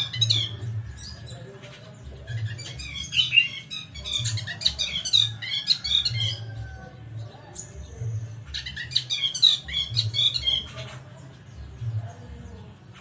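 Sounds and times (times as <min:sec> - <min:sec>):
bird chattering chirps: 0:00.0 - 0:13.0.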